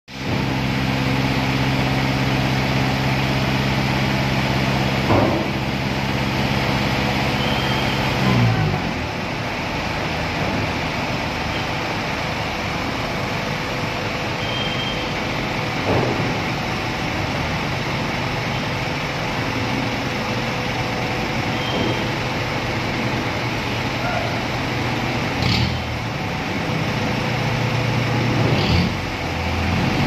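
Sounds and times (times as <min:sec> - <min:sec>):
vehicle engines rumbling: 0:00.1 - 0:30.0.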